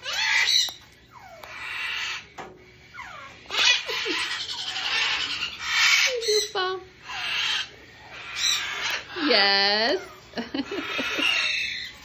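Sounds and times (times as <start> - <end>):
parrot calling: 0.0 - 12.0.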